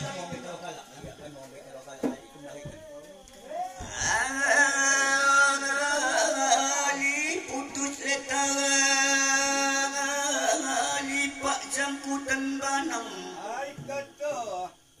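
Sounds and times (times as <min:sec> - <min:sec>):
man singing chant-like melody: 0:02.1 - 0:15.0.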